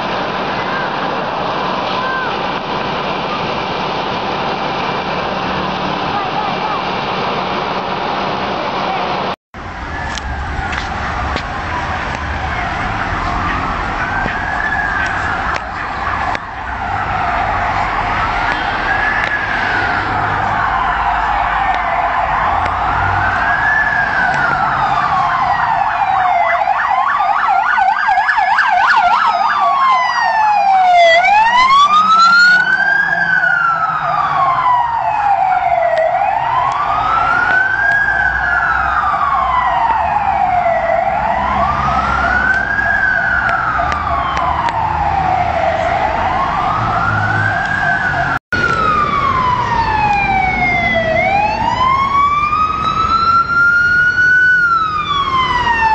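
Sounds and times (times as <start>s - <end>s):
fire truck siren wailing: 0.0s - 55.9s
low traffic rumble: 0.0s - 55.9s.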